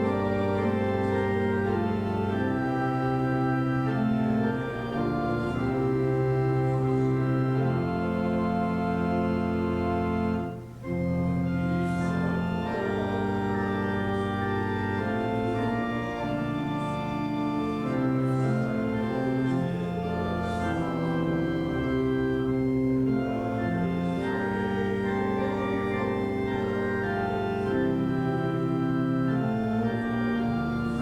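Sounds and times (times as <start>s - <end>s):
church organ chords: 0.0s - 31.0s.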